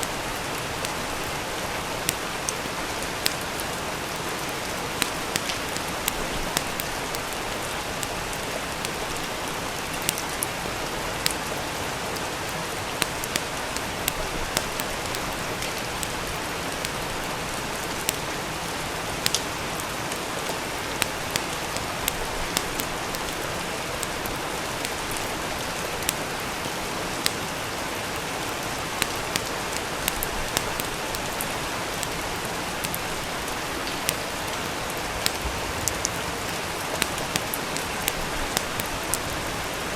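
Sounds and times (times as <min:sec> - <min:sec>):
steady rain falling: 0:00.0 - 0:39.9
wood fire crackling and popping: 0:00.0 - 0:39.9.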